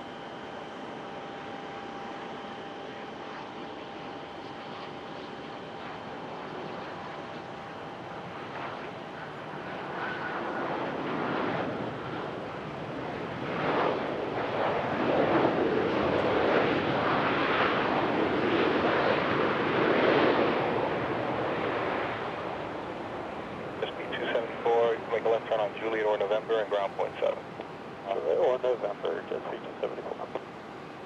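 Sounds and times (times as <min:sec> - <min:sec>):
airplane engines running: 0:00.0 - 0:31.0.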